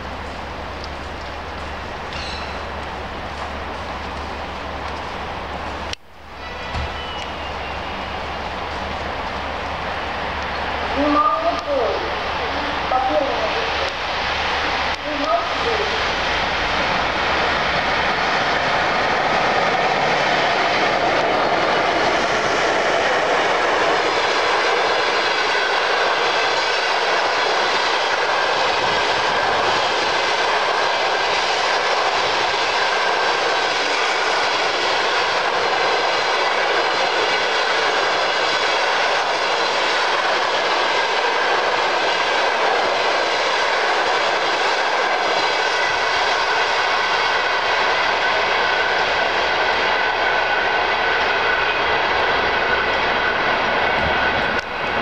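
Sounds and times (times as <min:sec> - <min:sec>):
train wheels rushing on rails: 0:00.0 - 0:55.0.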